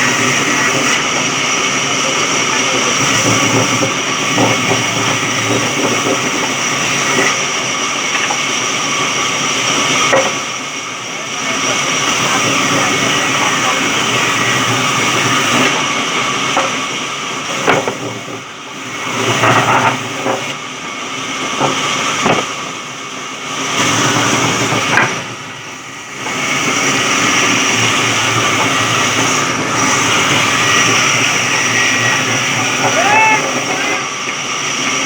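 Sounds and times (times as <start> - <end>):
sawmill cutting wood: 0.0 - 35.0.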